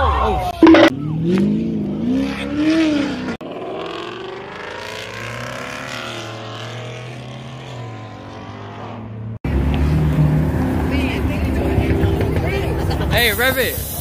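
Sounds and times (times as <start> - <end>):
car engine revving: 0.6 - 13.3.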